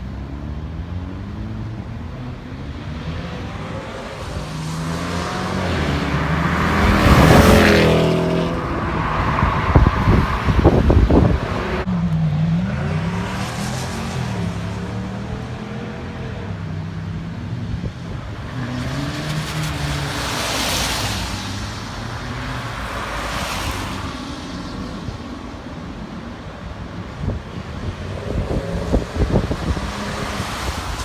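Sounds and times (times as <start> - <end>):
car engines running: 0.0 - 31.0.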